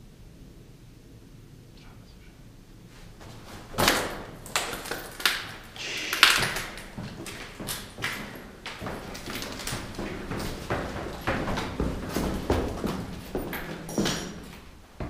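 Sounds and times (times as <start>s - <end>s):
irregular knocks and scuffs: 2.9s - 15.0s.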